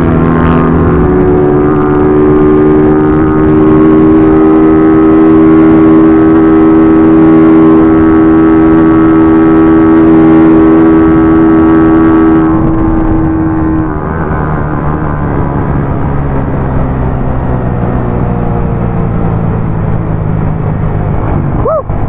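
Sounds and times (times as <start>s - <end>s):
motorcycle engine at high revs: 0.0s - 22.0s
wind and road noise: 0.0s - 22.0s.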